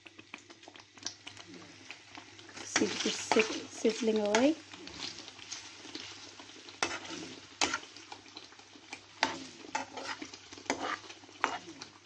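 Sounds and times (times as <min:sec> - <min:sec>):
cheese sizzling in frying pan: 0:00.0 - 0:12.0.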